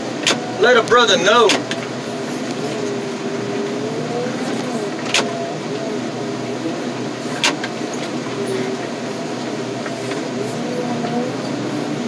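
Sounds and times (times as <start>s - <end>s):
machinery engine drone: 0.0s - 12.0s
wavering whine: 0.0s - 12.0s.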